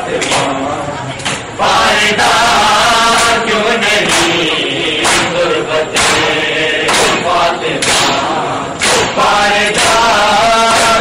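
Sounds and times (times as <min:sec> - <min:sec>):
men chanting in unison: 0:01.6 - 0:11.0.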